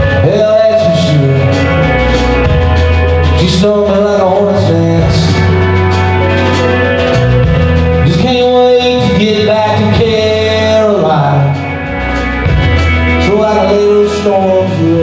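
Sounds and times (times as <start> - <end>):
country rock band playing: 0.0 - 15.0
sliding lead melody: 0.0 - 15.0.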